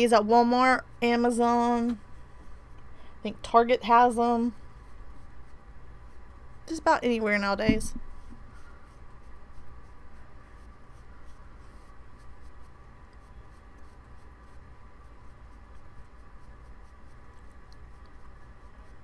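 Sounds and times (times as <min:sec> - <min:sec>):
steady low hum: 0:00.0 - 0:19.0
brush strokes on skin: 0:03.4 - 0:19.0.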